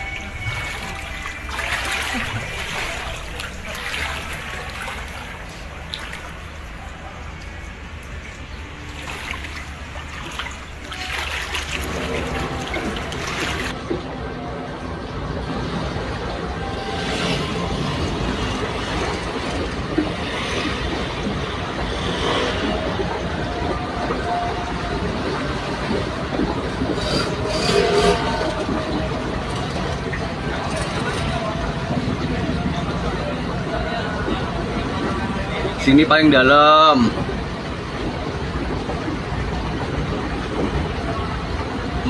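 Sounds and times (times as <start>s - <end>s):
floodwater rushing and splashing: 0.0s - 14.2s, 15.0s - 42.0s
road vehicle rumbling: 0.0s - 42.0s.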